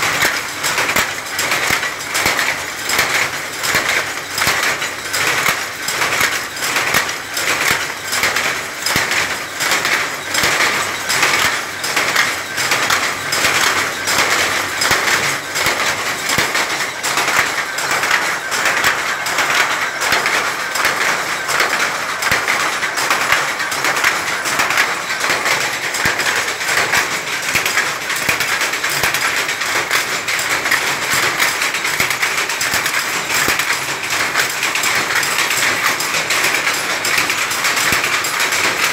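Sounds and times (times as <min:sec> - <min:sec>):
power looms clattering: 0:00.0 - 0:38.9.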